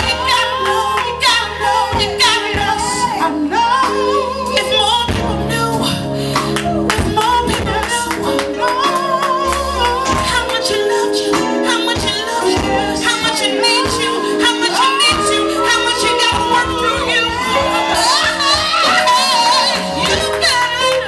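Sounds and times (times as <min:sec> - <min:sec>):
drum kit: 0:00.0 - 0:21.0
keyboard chords: 0:00.0 - 0:21.0
woman singing: 0:00.0 - 0:21.0.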